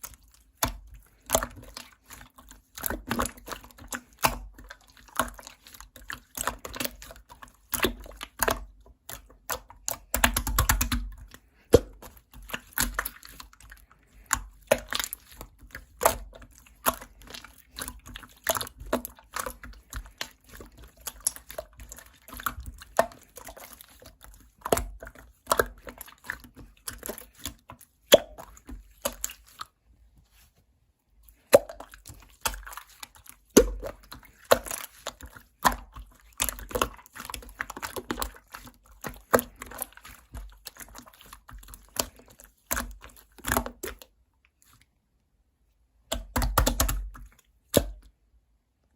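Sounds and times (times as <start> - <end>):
slime squished by hand: 0.0 - 30.5, 31.3 - 44.8, 46.0 - 48.2.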